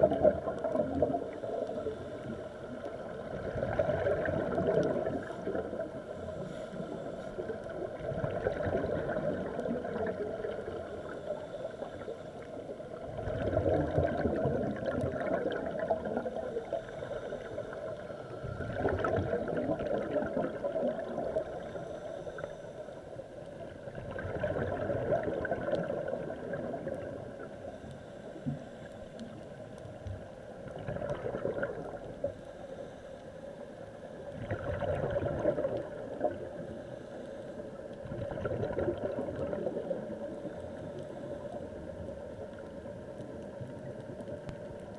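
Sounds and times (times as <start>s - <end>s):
underwater bubbling of exhaled breath: 0.0s - 44.9s.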